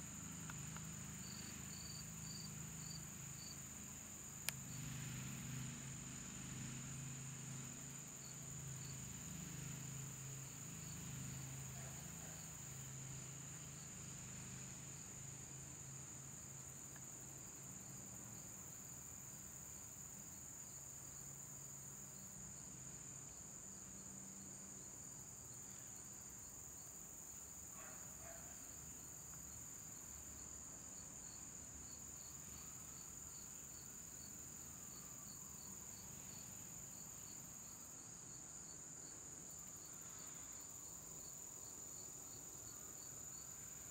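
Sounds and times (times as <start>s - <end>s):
high-pitched insect trill: 0.1s - 43.9s.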